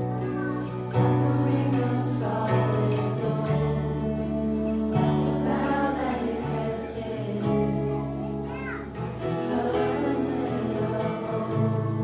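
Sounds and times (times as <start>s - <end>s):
band playing worship music: 0.0s - 12.0s
voices singing together: 0.6s - 12.0s.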